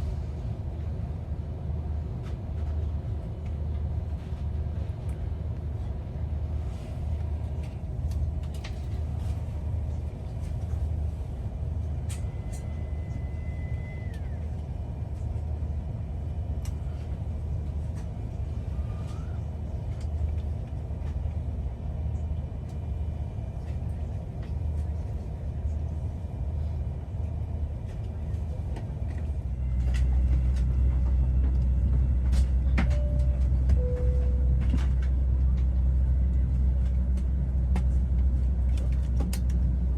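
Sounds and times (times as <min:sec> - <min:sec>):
airplane cabin rumble and hum: 0:00.0 - 0:39.9.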